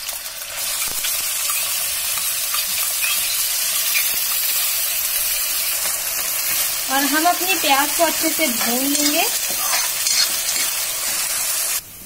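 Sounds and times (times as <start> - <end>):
hot oil sizzling in a pan: 0.0 - 12.0.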